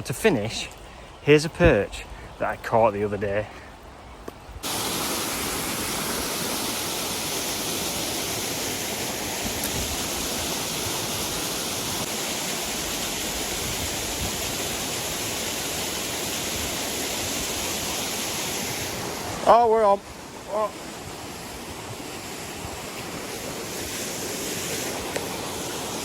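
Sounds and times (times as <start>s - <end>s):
steady rushing noise outdoors: 0.0s - 26.0s.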